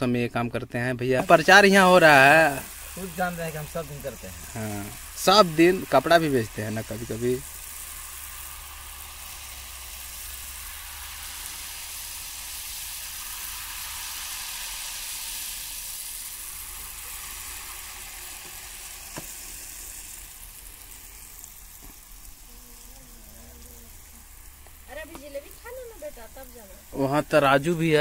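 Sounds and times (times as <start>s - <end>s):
batter sizzling in hot oil: 1.0s - 28.0s.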